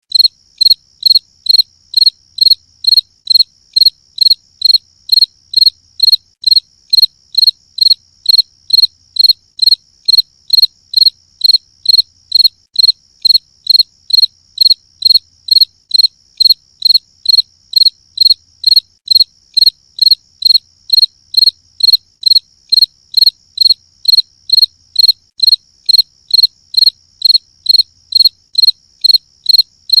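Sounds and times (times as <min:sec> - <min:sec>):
cricket chirping: 0:00.1 - 0:30.0.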